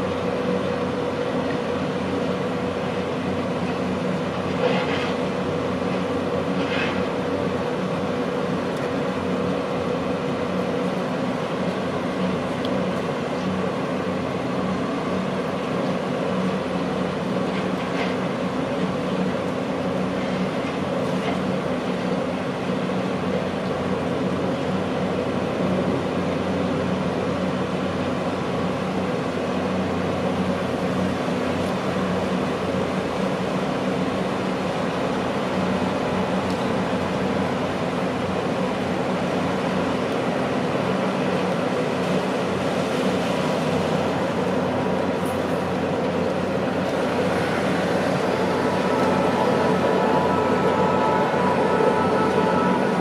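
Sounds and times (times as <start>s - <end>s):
excavator running: 0.0s - 29.0s, 29.7s - 53.0s.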